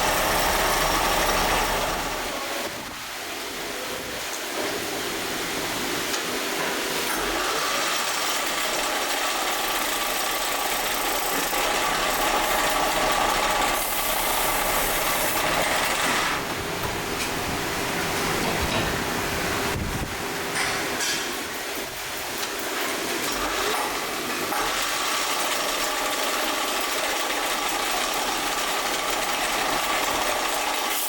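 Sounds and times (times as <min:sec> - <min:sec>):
factory machinery running: 0:00.0 - 0:31.0.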